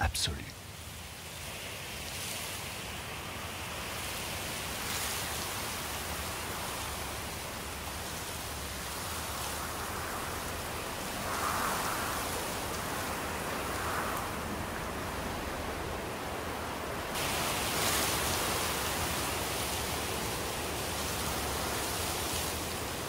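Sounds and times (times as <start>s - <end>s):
wind rushing through foliage: 0.0s - 23.0s.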